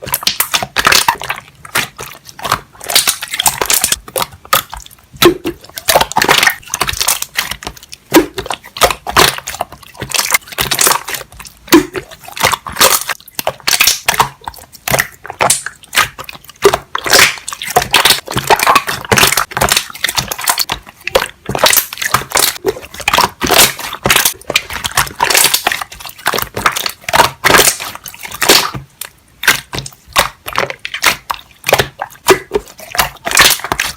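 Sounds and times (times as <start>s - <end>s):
slime air bubbles popping: 0.0s - 33.9s.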